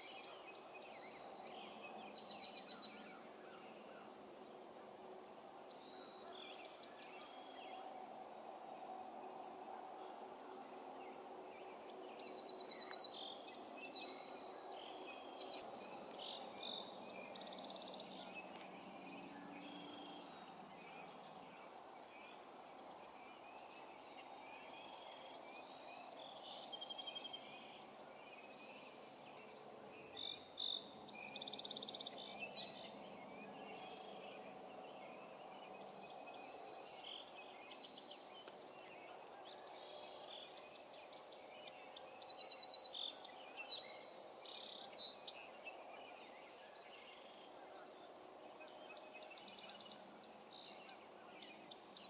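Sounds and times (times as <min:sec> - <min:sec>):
songbirds chirping and trilling: 0:00.0 - 0:52.0.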